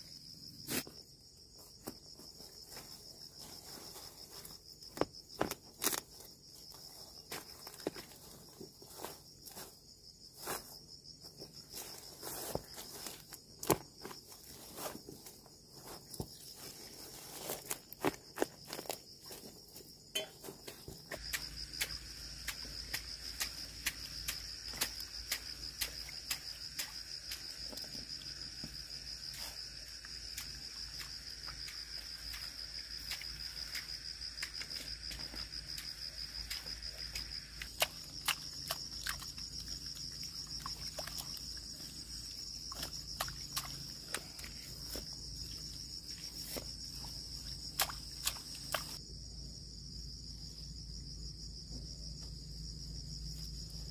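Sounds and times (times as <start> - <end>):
high insect chirring: 0.0 - 53.9.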